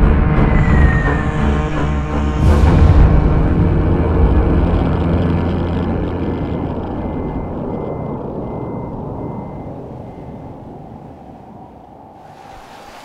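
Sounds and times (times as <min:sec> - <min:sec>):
explosion rumble: 0:00.0 - 0:10.8.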